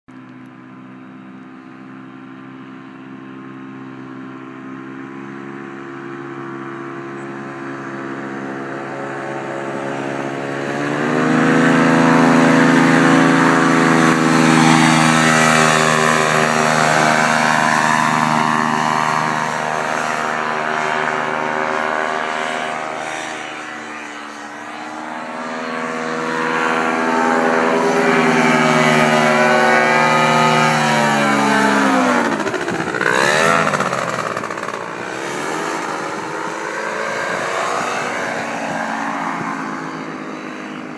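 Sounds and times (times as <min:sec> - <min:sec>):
paramotor engine and propeller drone: 0:00.1 - 0:40.9.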